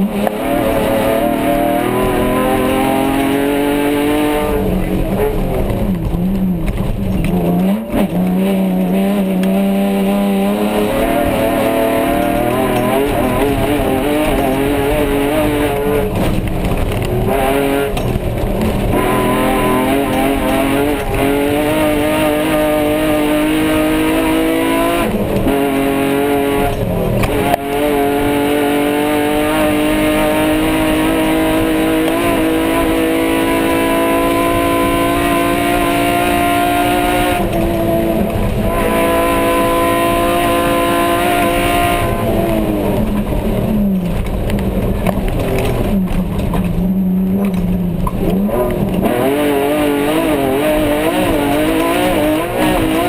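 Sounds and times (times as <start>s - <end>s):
race car engine revving: 0.0s - 53.0s
rumble of dirt track: 0.0s - 53.0s.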